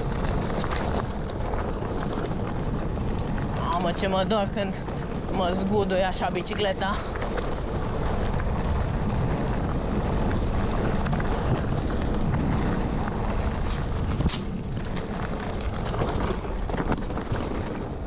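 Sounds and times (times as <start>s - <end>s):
bicycle rattling on rocky trail: 0.0s - 18.0s
wind rushing over microphone: 0.0s - 18.0s.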